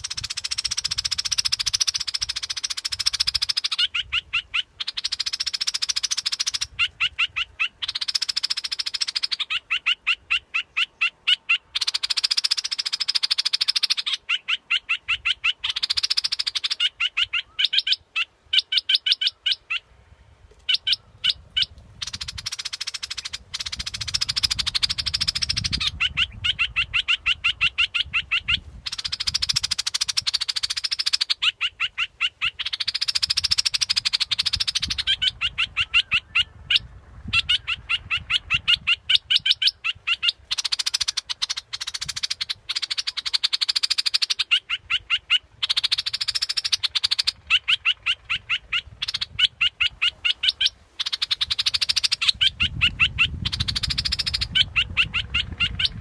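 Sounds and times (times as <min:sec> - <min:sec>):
bulbul chattering song: 0:00.0 - 0:19.9, 0:20.6 - 0:56.0.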